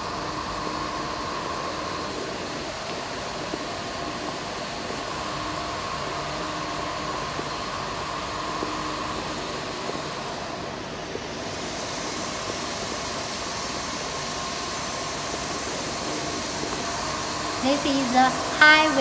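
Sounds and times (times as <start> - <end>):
faint high whine: 0.0 - 19.0
mechanical hum and hiss: 0.0 - 19.0.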